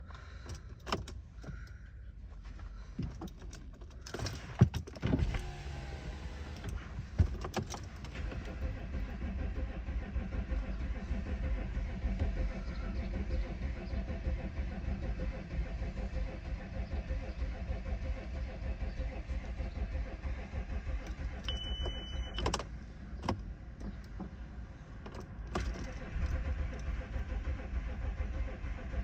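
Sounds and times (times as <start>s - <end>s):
diesel engine idling: 0.0s - 4.0s, 5.2s - 29.0s
starter cranking: 3.0s - 29.0s.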